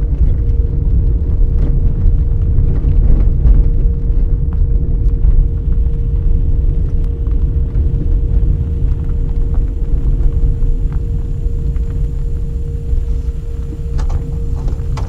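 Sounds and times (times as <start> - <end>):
faint constant hum: 0.0 - 15.0
low rumble: 0.0 - 15.0.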